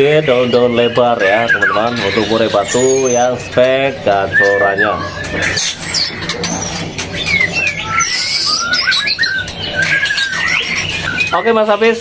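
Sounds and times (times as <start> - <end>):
bird singing whistled notes: 0.3 - 3.5, 4.2 - 11.7.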